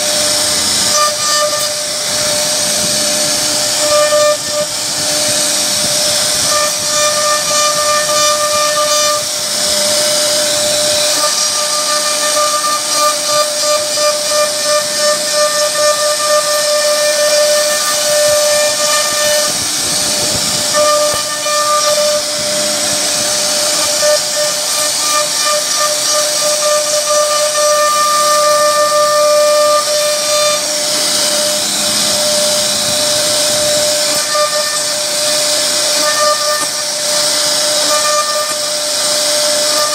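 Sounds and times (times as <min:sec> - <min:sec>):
cutter carving wood: 0:00.0 - 0:39.9
router spindle high whine: 0:00.0 - 0:39.9.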